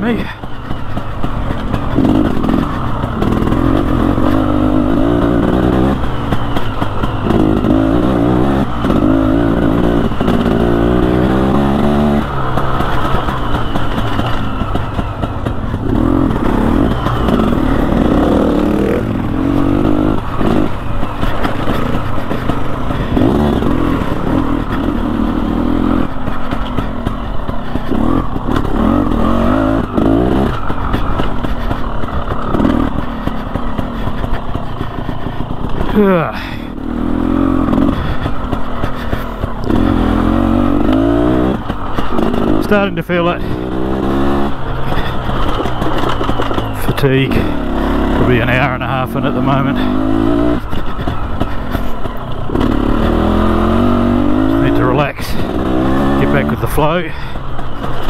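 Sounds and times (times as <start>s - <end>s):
dirt bike engine revving: 0.0s - 58.0s
knocks and clatter: 0.3s - 36.0s, 37.2s - 58.0s.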